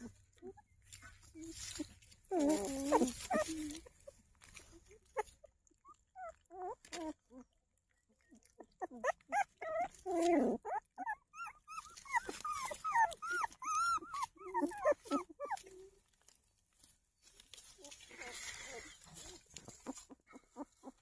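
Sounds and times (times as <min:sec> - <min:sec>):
puppies whimpering and squealing: 0:00.0 - 0:07.5, 0:08.3 - 0:16.1, 0:18.1 - 0:21.0.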